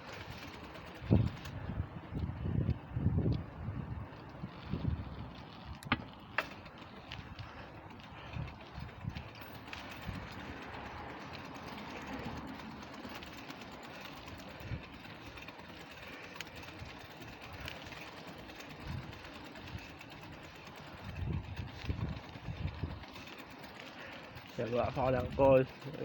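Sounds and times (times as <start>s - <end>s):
rushing wind: 0.0s - 25.8s
bicycle road noise: 0.0s - 26.0s.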